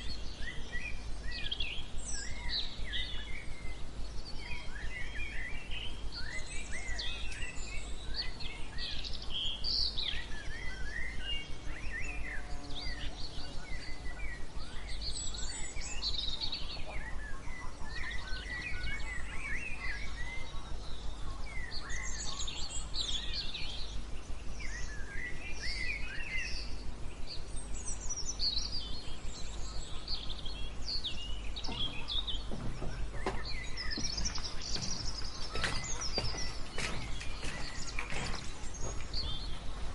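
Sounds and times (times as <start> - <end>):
songbirds chirping: 0.0 - 39.9
white noise: 0.0 - 39.9.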